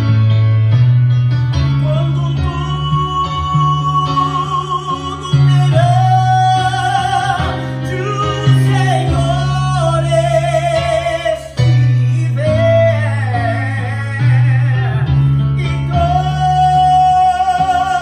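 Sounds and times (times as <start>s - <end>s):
electronic keyboard chords: 0.0s - 18.0s
man singing a hymn: 1.6s - 18.0s.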